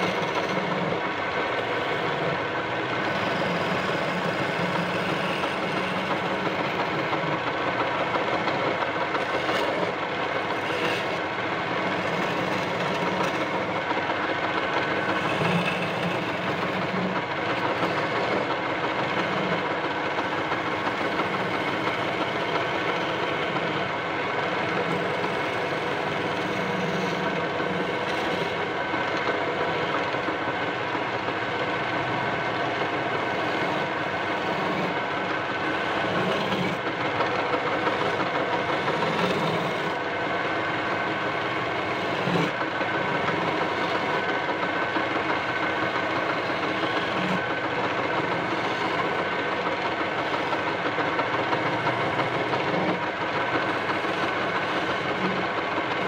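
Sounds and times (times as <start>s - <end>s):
chisel scraping spinning wood: 0.0s - 56.0s
wood lathe motor hum: 0.0s - 56.0s.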